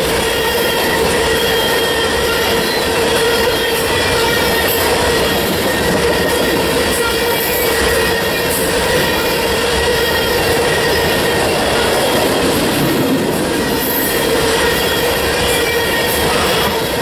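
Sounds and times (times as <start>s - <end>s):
steel wheels rushing on rail: 0.0s - 17.0s.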